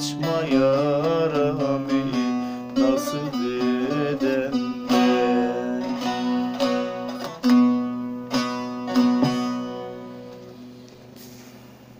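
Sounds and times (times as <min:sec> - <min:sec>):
saz strummed over drone: 0:00.0 - 0:10.8.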